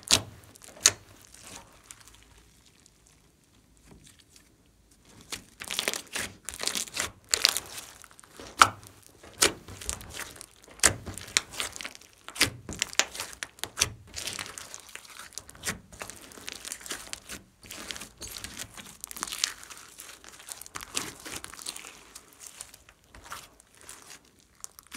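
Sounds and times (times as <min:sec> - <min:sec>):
slime crackling and popping: 0:00.0 - 0:03.3, 0:05.1 - 0:24.9.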